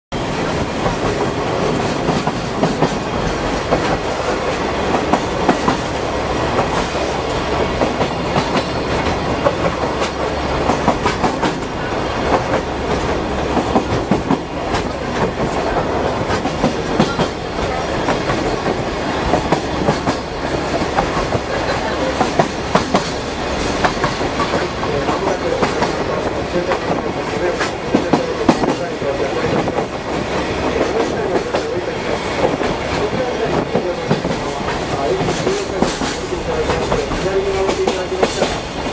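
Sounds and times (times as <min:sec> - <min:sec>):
train rolling rumble: 0:00.1 - 0:38.9.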